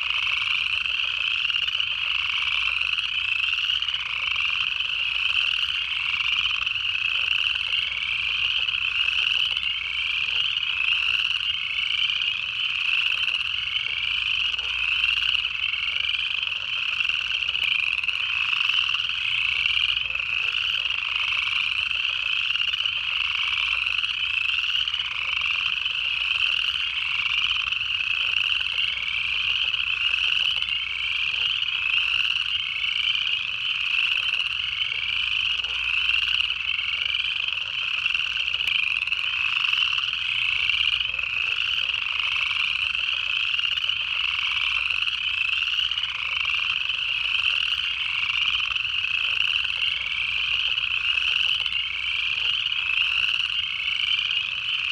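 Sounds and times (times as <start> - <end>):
chorus of frogs trilling: 0.0 - 54.9.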